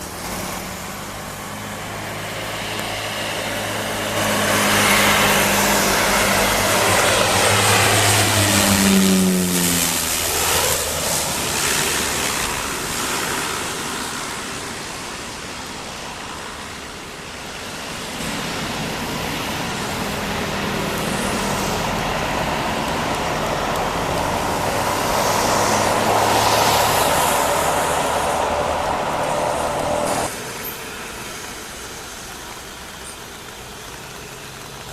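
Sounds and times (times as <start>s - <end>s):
turboprop plane passing: 0.0s - 30.4s.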